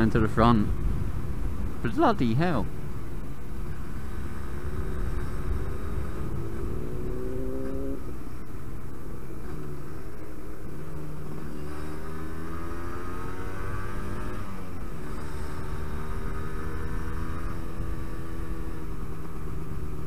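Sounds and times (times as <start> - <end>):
two-stroke motorcycle accelerating: 0.0 - 20.0.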